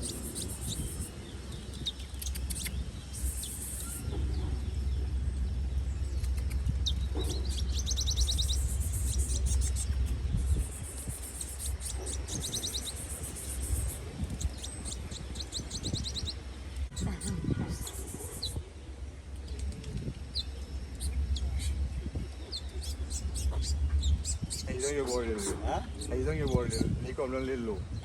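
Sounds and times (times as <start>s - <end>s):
bird chirping in trills: 0.0s - 28.0s
low rumble: 0.0s - 28.0s.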